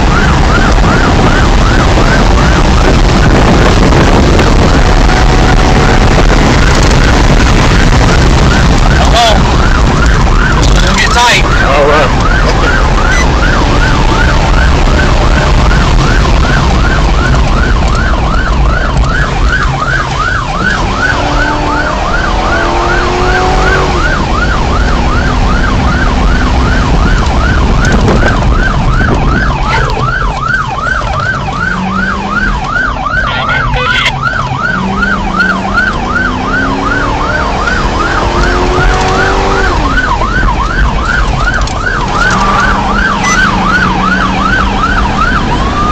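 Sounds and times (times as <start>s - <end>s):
car engine accelerating: 0.0s - 45.9s
police siren yelping: 0.0s - 45.9s
road rumble: 0.0s - 45.9s.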